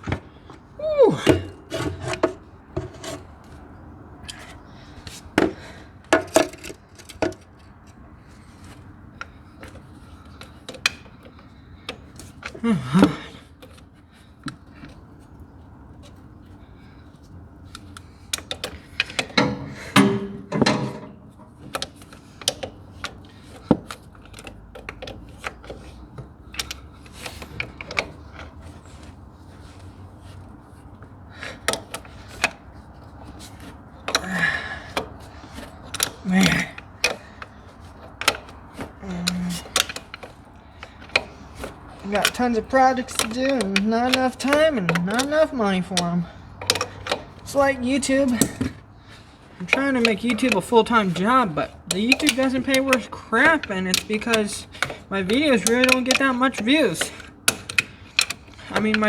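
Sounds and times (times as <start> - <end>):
hand tools clinking and knocking: 0.0 - 59.0.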